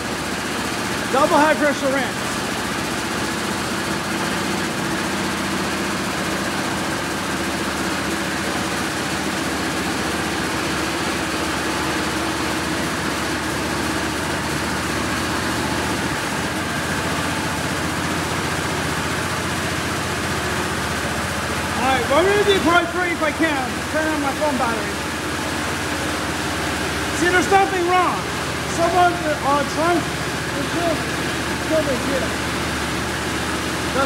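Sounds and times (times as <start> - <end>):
pump machinery humming: 0.0 - 34.0
water jets spraying car: 0.0 - 34.0.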